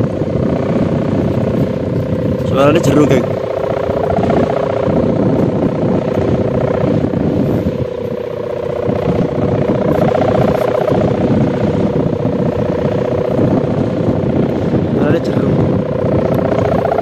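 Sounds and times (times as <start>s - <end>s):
hummer bow droning in wind: 0.0s - 17.0s
wind rumble on microphone: 0.0s - 17.0s.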